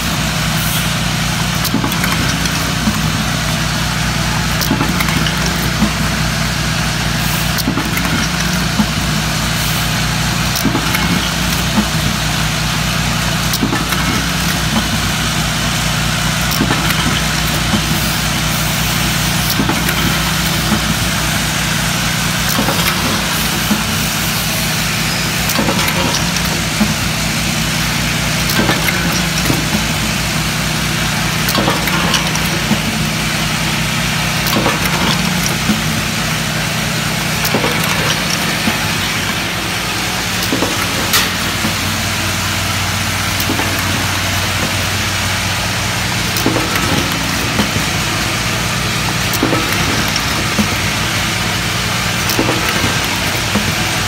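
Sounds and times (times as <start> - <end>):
machinery humming and clacking: 0.0 - 54.0.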